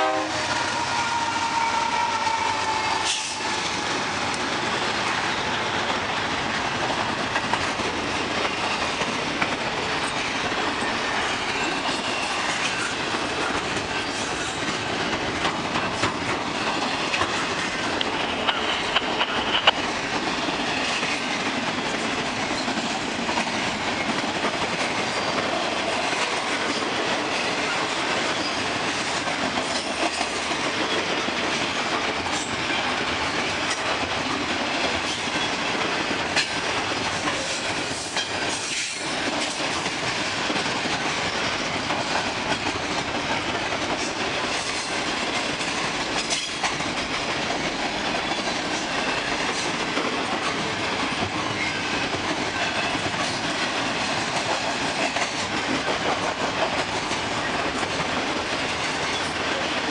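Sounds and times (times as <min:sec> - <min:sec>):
train wheels rumbling on rails: 0:00.0 - 0:59.9
wheels clicking over rail joints: 0:05.9 - 0:59.9.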